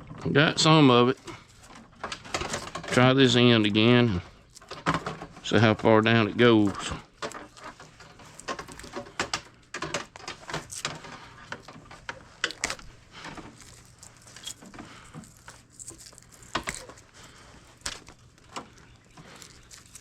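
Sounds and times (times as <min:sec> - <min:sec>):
wire stripping clicks and scrapes: 0:01.2 - 0:03.2, 0:04.3 - 0:05.6, 0:06.4 - 0:20.0.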